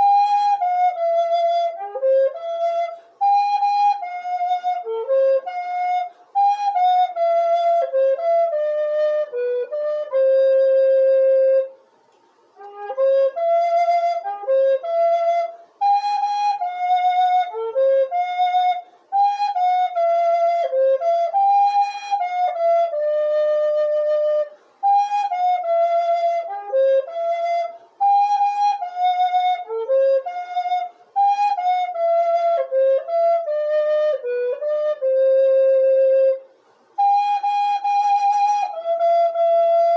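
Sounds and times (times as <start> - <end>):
solo flute playing hymn melody: 0.0 - 39.9.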